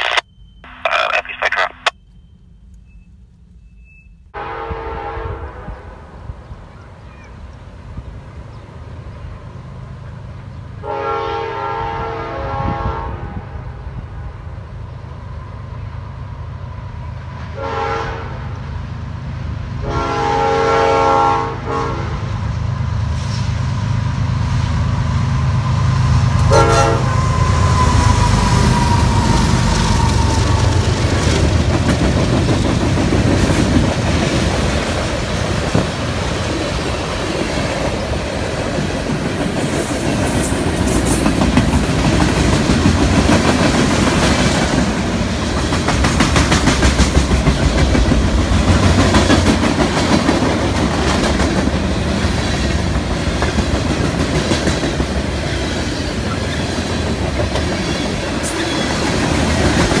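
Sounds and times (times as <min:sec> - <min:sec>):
freight train rumble: 0:00.0 - 1:00.0.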